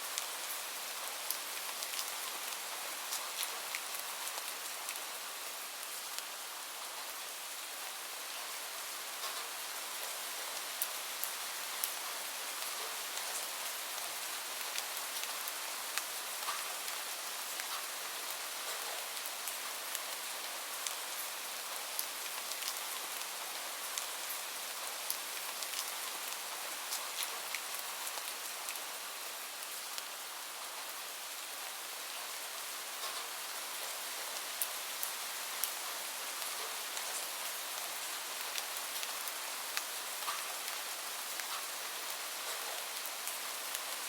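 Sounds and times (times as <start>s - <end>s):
rain hiss: 0.0s - 44.0s
raindrops ticking on surface: 0.1s - 6.4s, 9.2s - 30.2s, 32.1s - 44.0s.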